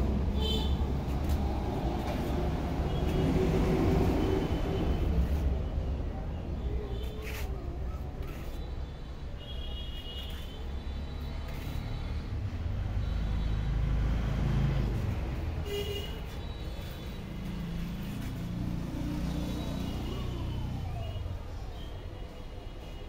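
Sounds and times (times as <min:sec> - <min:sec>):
vehicle engine rumble: 0:00.0 - 0:09.2, 0:10.2 - 0:21.6.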